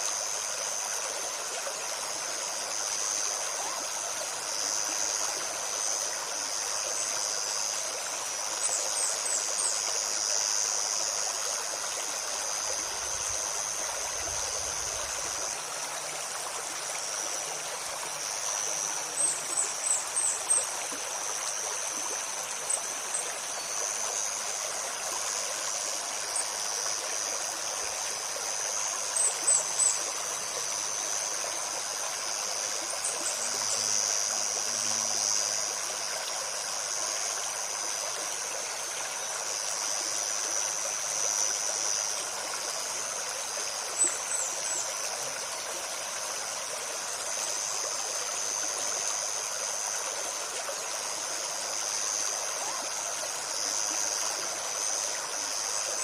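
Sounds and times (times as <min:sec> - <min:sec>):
high insect drone: 0:00.0 - 0:56.0
stream flowing and babbling: 0:00.0 - 0:56.0.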